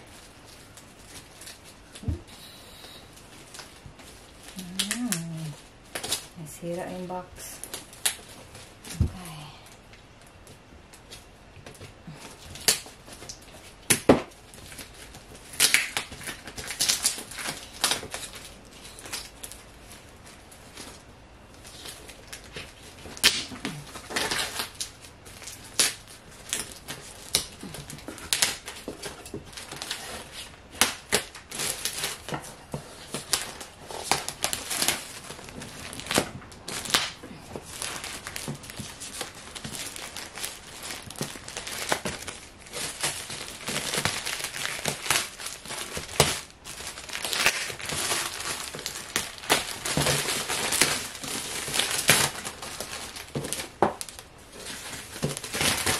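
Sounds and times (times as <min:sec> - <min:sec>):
wrapping paper tearing and crackling: 0:00.0 - 0:09.8, 0:10.5 - 0:55.9.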